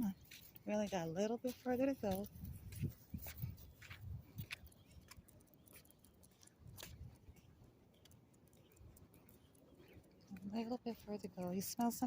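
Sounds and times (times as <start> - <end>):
faint light clicks and ticks: 1.4 - 12.0.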